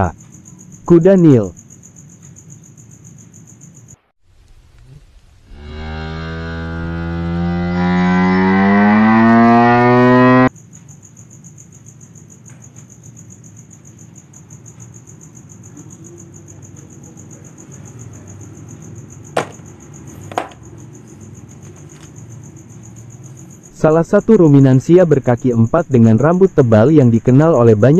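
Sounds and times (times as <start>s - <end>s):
crickets chirring: 0.0s - 27.9s.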